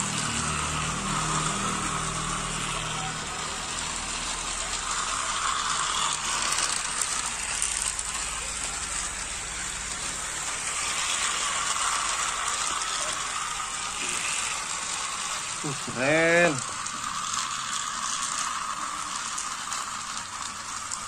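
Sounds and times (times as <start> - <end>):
toy train motors whirring: 0.0 - 21.0.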